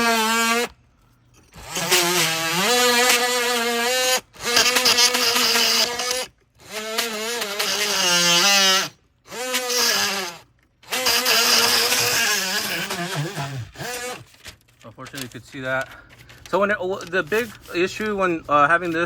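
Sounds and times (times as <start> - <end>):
rotary tool whining: 0.0 - 19.0.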